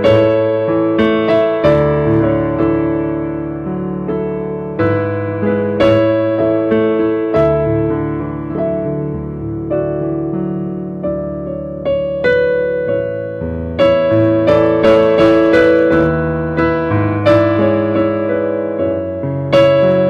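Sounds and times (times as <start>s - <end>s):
piano keyboard chords and melody: 0.0s - 20.0s.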